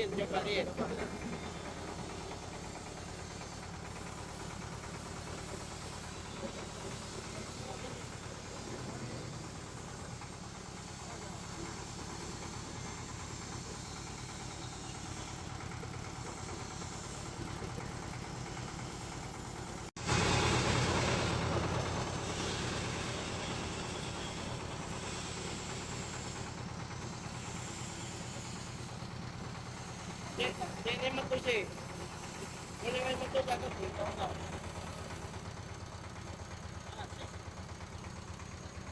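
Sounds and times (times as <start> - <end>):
extruder machine chugging: 0.0 - 38.9.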